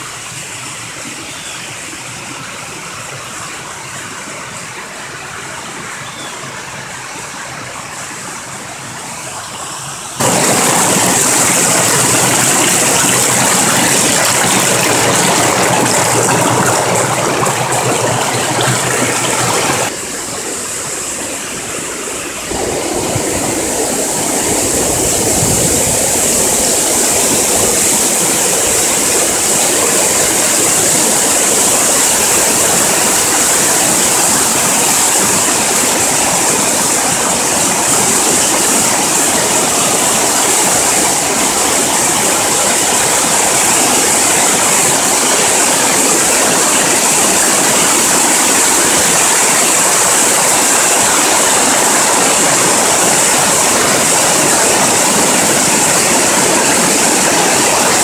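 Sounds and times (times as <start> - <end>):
waterfall rushing over rocks: 0.0 - 58.0.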